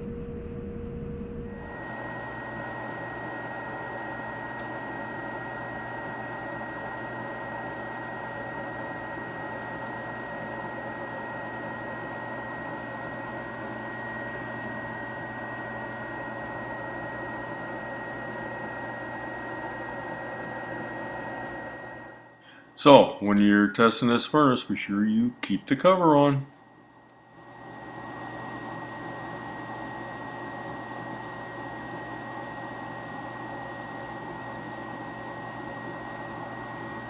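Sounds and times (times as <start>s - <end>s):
gas furnace whirring: 0.0s - 37.0s.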